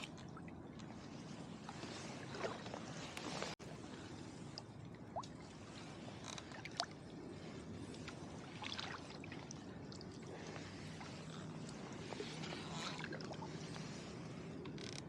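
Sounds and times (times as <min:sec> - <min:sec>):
small water splashes: 0:00.0 - 0:03.6, 0:04.3 - 0:14.4.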